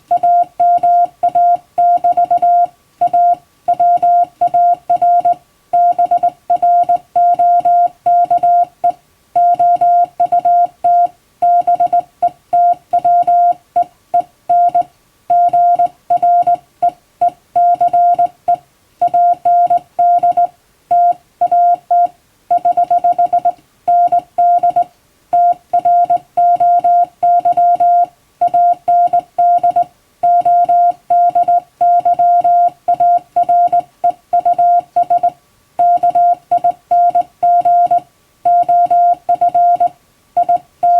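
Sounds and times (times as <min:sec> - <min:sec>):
morse code tone: 0:00.1 - 0:40.9.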